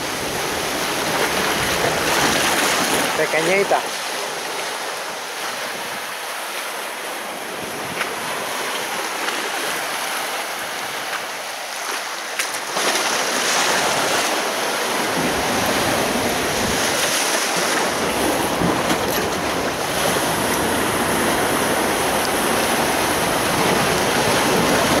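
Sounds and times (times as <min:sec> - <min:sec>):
sea waves washing: 0:00.0 - 0:25.0.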